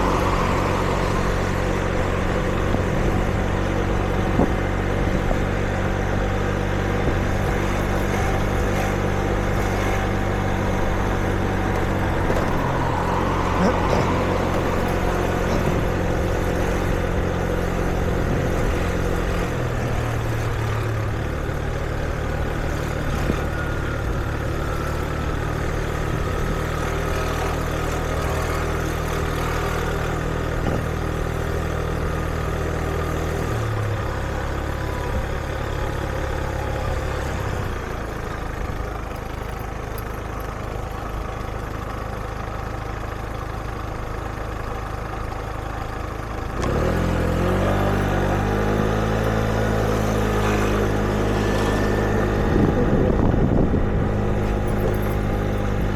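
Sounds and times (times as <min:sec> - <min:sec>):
traffic hum: 0:00.0 - 0:55.9
vehicle engines idling: 0:00.0 - 0:55.9.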